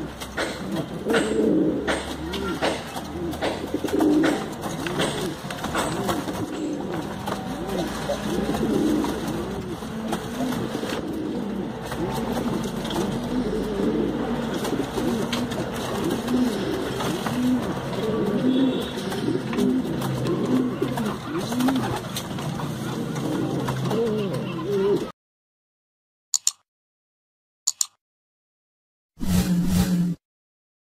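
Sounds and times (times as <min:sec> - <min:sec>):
pigeon cooing: 0:00.0 - 0:25.1.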